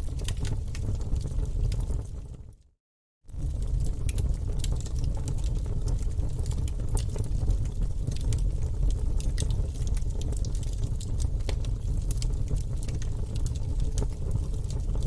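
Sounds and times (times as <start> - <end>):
logs crackling and popping: 0.0 - 2.5, 3.3 - 15.0
low rumble of flames: 0.0 - 2.6, 3.3 - 15.0.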